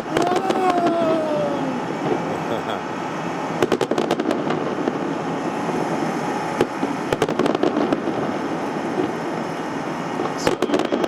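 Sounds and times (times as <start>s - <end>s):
fireworks cracking: 0.0s - 11.0s.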